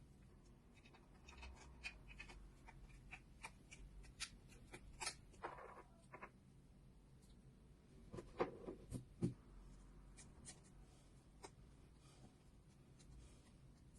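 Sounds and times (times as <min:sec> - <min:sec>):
low room hum: 0:00.0 - 0:13.9.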